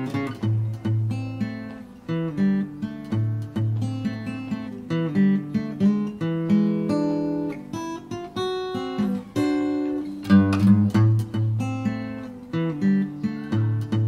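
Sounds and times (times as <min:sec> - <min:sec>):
acoustic guitar blues: 0:00.0 - 0:14.0.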